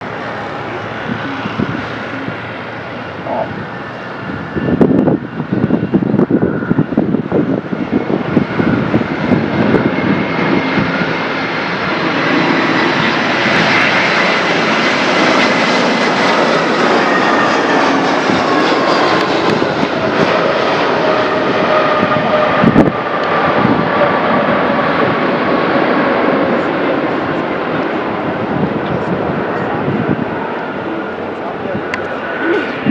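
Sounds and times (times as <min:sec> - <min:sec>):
airliner engines with high whine: 0:00.0 - 0:32.9
gusty rumble: 0:00.0 - 0:32.9.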